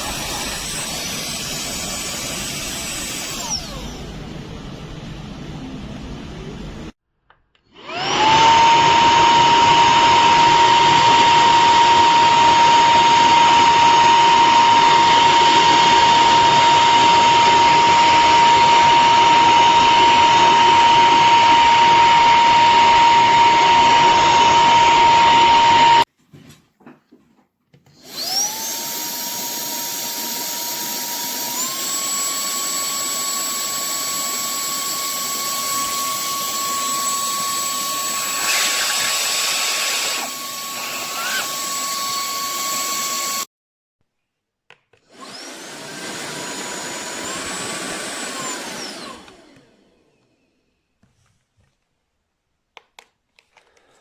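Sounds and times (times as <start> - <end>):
handheld vacuum motor whine: 0.0 - 4.2, 7.8 - 26.1, 28.0 - 43.5, 45.1 - 50.6.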